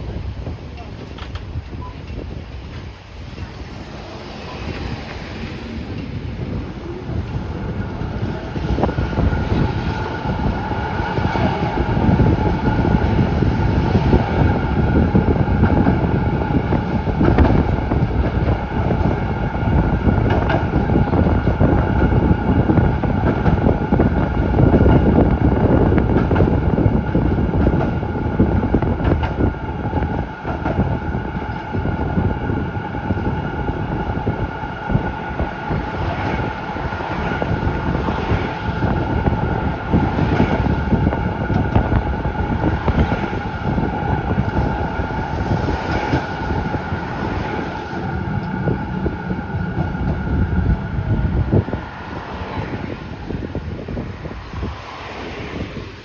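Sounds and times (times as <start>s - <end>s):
tram wheels rumbling on rail: 0.0s - 56.0s.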